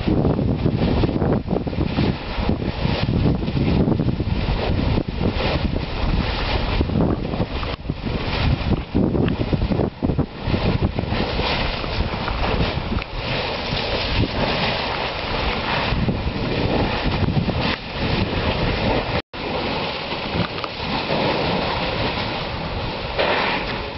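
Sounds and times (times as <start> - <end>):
lava lake rushing and crackling: 0.0 - 23.9
wind buffeting microphone: 0.0 - 23.9.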